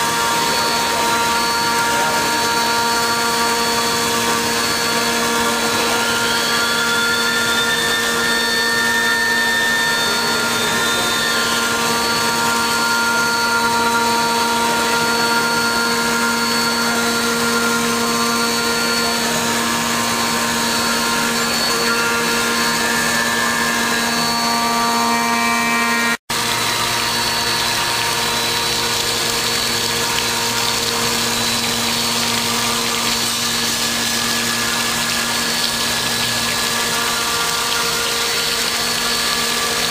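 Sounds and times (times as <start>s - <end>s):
cnc machine whine: 0.0s - 39.9s.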